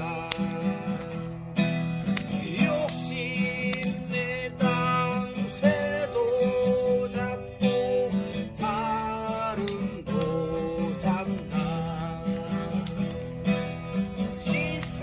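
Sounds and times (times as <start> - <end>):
acoustic guitar strumming: 0.0 - 15.0
person singing slow melody: 0.0 - 15.0.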